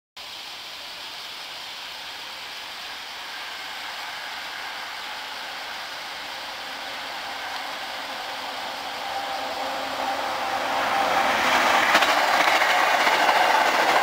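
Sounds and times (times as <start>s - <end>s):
train rolling hiss: 0.2s - 14.0s.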